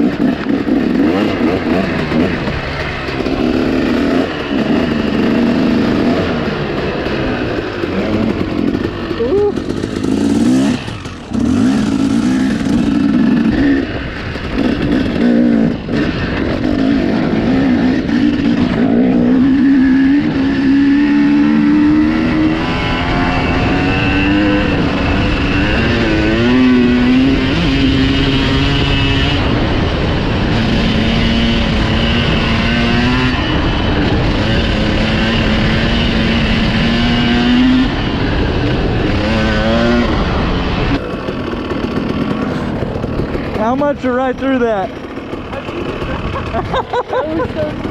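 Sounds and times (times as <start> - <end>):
dirt bike engine under load: 0.0 - 29.8, 39.0 - 47.9.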